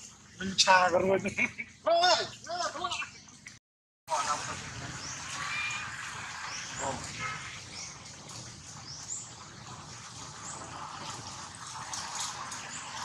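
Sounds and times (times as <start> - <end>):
outdoor background noise: 0.0 - 13.0
birds chirping: 0.9 - 11.6.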